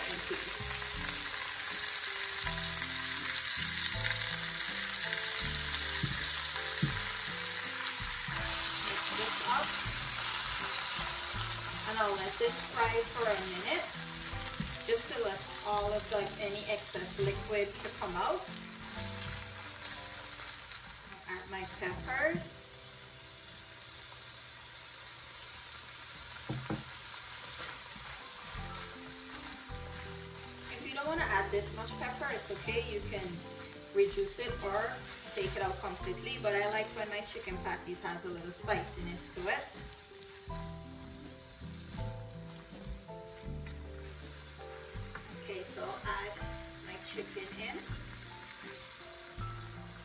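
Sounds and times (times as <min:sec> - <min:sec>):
soft background music: 0:00.0 - 0:50.0
vegetables sizzling in oil: 0:00.0 - 0:50.0.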